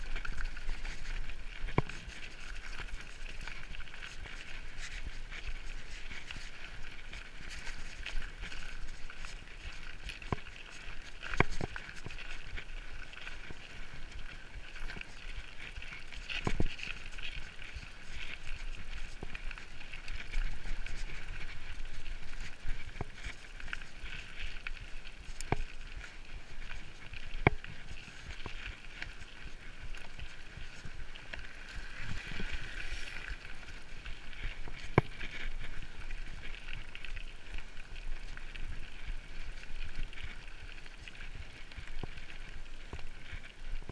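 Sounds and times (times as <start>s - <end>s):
bike tyres crunching on gravel: 0.0s - 43.9s.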